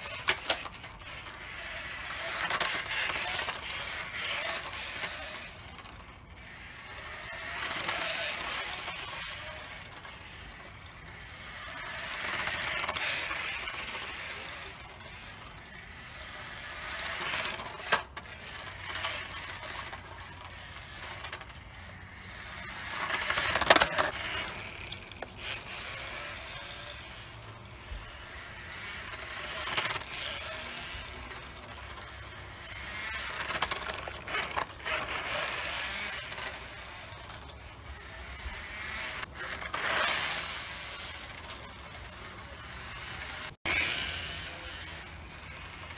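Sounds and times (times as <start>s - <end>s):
rc car motor whine: 0.0s - 45.9s.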